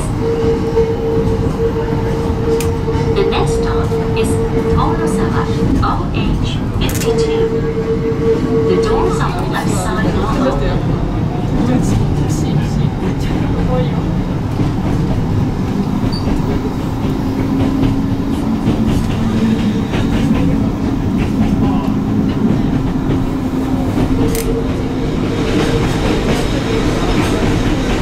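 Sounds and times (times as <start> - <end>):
train wheels rumbling on rail: 0.0 - 28.0
rail joint clicks: 0.1 - 7.5, 11.4 - 28.0.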